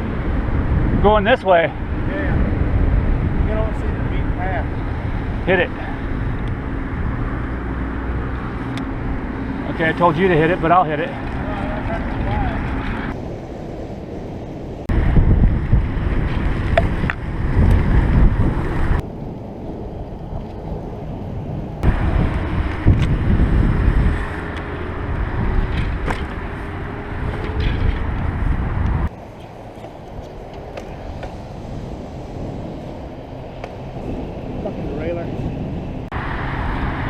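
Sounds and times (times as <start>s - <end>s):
bicycle riding noise: 0.0s - 37.0s
wind rumbling on microphone: 0.0s - 37.0s.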